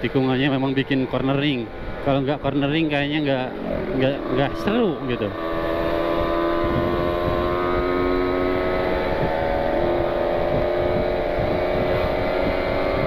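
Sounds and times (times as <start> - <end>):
wind rumbling on microphone: 0.0 - 13.0
motorcycle engine running: 1.7 - 13.0.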